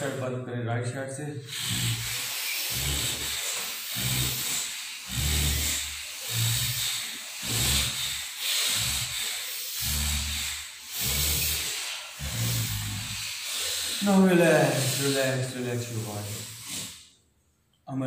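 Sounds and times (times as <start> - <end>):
man breathing forcefully through nose: 1.4 - 17.1.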